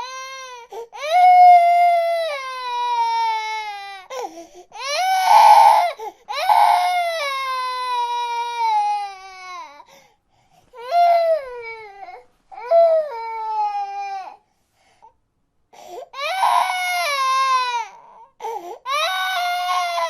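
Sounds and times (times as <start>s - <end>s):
baby crying: 0.0s - 9.8s, 10.8s - 14.4s, 16.1s - 20.0s.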